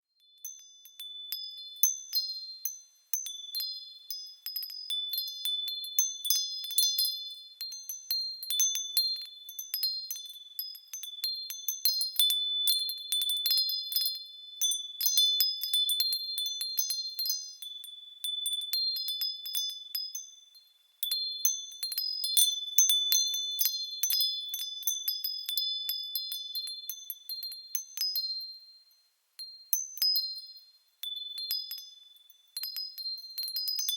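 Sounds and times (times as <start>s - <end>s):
wind chimes ringing: 0.2s - 33.9s.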